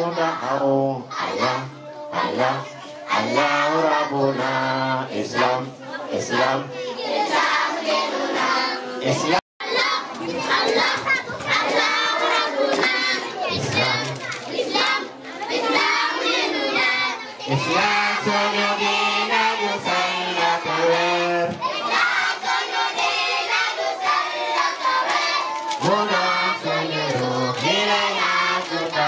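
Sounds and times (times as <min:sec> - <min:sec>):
children chanting in unison: 0:00.0 - 0:29.0.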